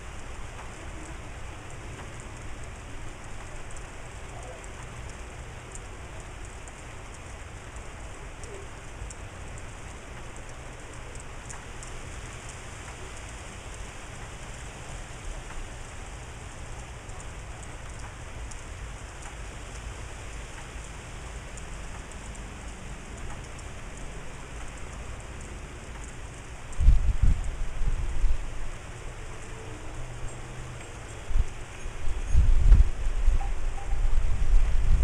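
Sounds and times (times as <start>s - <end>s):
rain falling: 0.0s - 35.0s
raindrops ticking: 0.0s - 35.0s.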